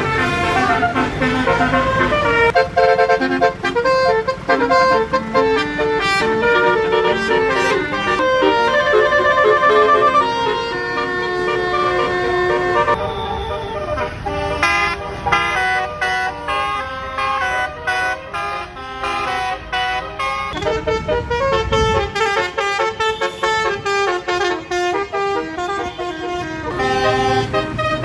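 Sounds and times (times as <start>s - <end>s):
bus engine rumble: 0.0s - 28.0s
musical air horn melody: 0.0s - 28.0s.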